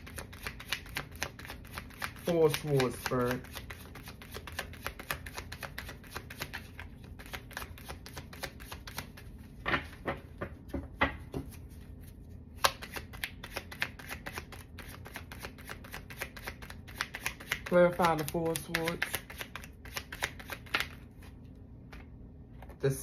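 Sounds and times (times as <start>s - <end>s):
cards being shuffled: 0.0s - 10.0s, 11.4s - 22.8s.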